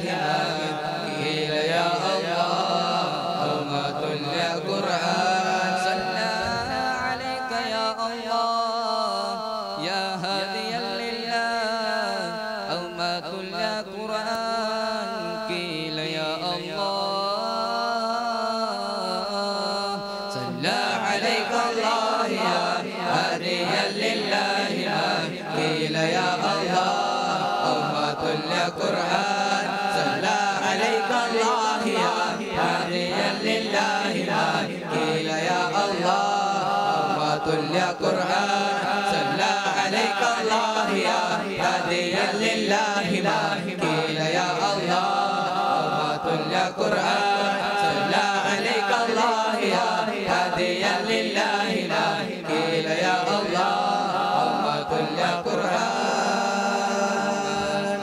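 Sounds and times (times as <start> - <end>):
group of men singing: 0.0 - 58.0.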